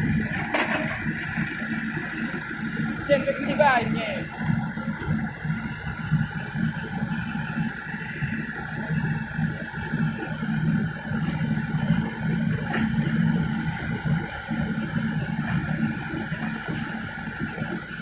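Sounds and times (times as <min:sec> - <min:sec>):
excavator diesel engine drone: 0:00.0 - 0:18.0.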